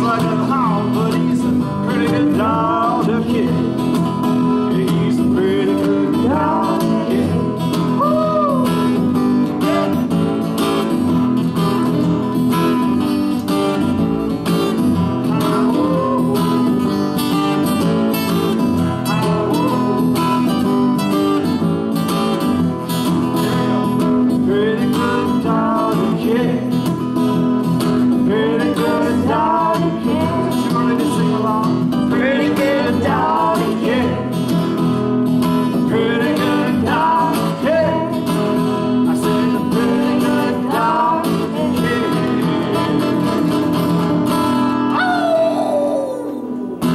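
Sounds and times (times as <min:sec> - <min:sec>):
acoustic guitars strumming chords: 0:00.0 - 0:46.9
picked guitar lead line: 0:00.0 - 0:46.9.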